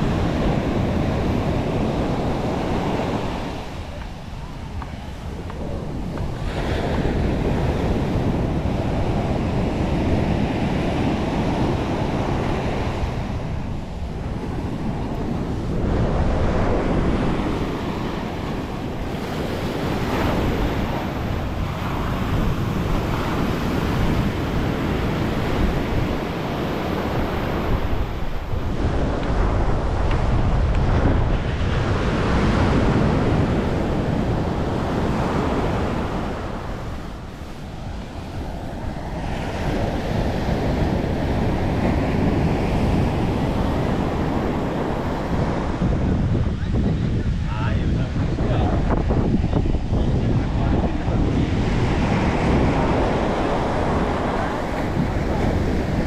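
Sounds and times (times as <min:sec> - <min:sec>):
surf breaking on sand: 0:00.0 - 0:56.0
wind buffeting microphone: 0:00.0 - 0:56.0.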